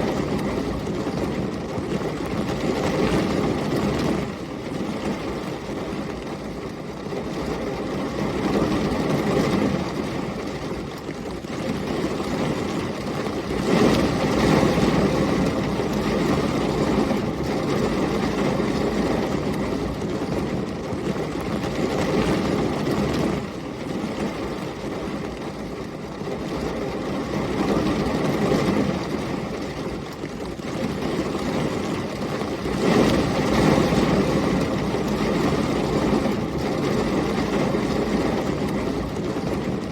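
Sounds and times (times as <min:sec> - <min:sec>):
storm wind rumble: 0:00.0 - 0:39.9.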